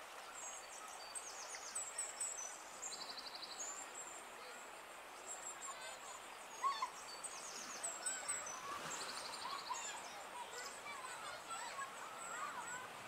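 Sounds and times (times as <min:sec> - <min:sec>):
faint outdoor background noise: 0:00.0 - 0:13.0
small birds chirping: 0:00.2 - 0:12.9.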